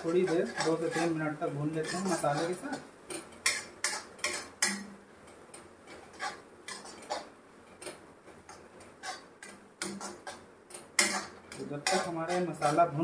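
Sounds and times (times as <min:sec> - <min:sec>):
ladle scraping a metal pan: 0:00.0 - 0:04.9, 0:05.9 - 0:07.3, 0:08.5 - 0:13.0
tomatoes frying: 0:00.0 - 0:13.0.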